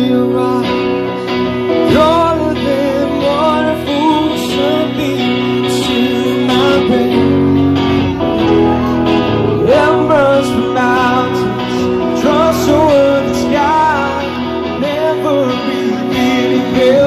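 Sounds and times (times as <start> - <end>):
drums: 0.0 - 17.0
electric guitar: 0.0 - 17.0
person singing: 0.0 - 17.0.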